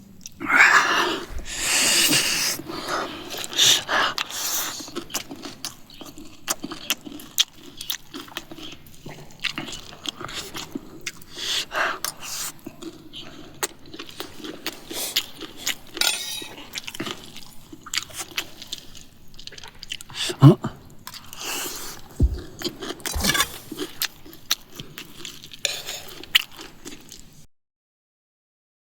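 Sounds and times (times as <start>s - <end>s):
crunching snack while chewing: 3.1s - 27.4s.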